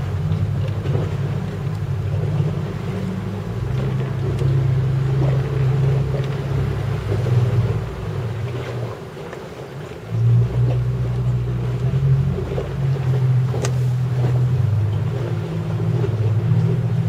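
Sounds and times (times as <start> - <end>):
boat motor humming: 0.0 - 17.0
water noise: 0.0 - 17.0
wind: 0.0 - 17.0.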